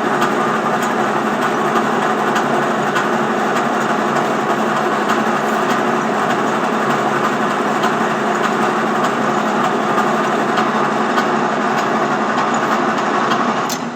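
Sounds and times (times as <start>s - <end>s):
lathe running: 0.0s - 13.9s.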